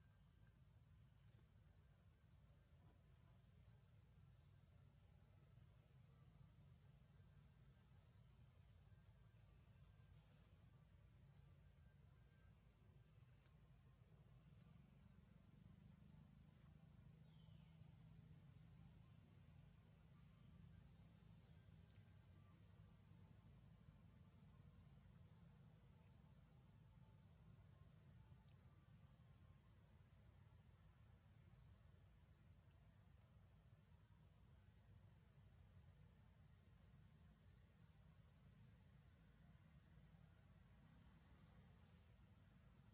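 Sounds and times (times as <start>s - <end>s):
pulsing high-pitched insect chorus: 0.0s - 42.9s.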